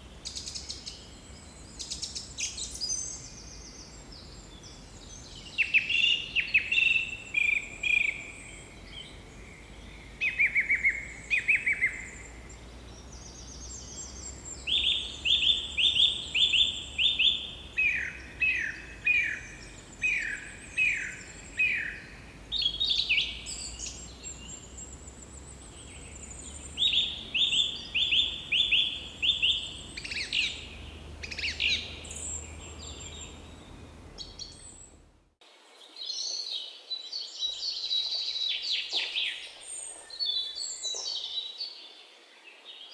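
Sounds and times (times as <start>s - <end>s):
birds calling downward notes: 0.0s - 35.1s.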